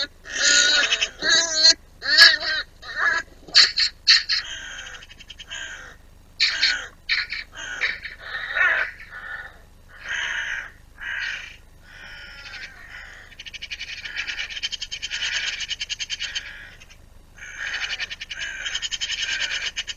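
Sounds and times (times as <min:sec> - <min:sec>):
crows cawing: 0:00.0 - 0:19.9.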